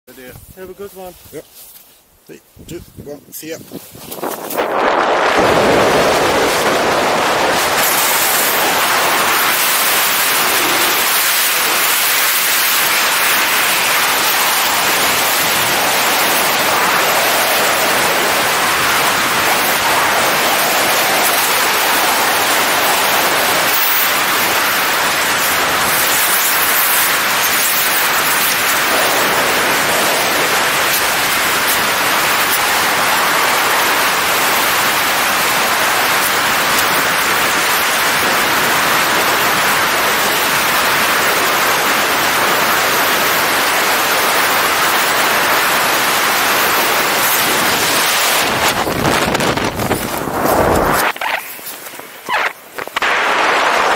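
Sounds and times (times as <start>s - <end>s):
wind rushing over microphone: 2.5s - 53.9s.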